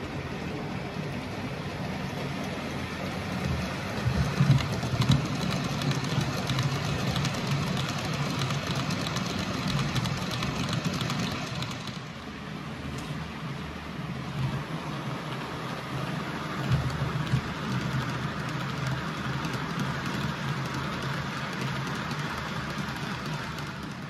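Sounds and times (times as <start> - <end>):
model train low hum: 0.0 - 24.0
wheels clicking over rail joints: 1.5 - 12.2, 14.5 - 24.0.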